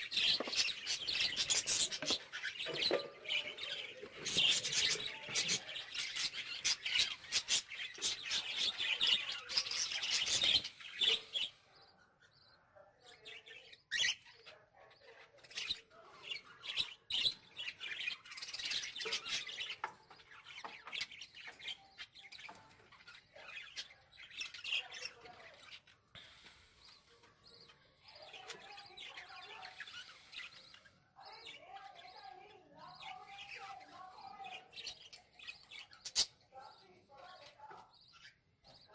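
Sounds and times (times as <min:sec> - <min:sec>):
caged birds chirping and chattering: 0:00.0 - 0:38.9.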